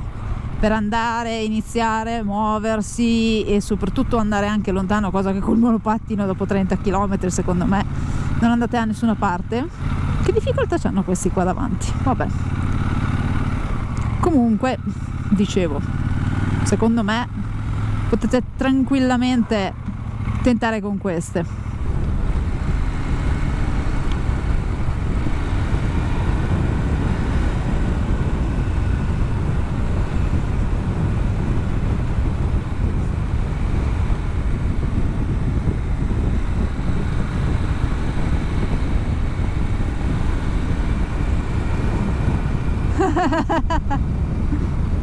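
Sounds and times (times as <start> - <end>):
motorcycle engine cruising: 0.0 - 45.0
wind rushing on microphone: 0.0 - 45.0.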